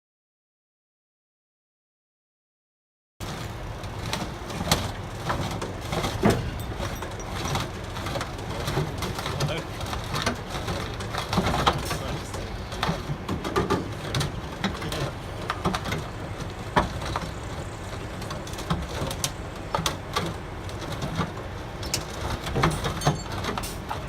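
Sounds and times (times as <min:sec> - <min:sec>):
metal and plastic crunching: 0:03.2 - 0:24.0
recovery vehicle engines running: 0:03.2 - 0:24.0.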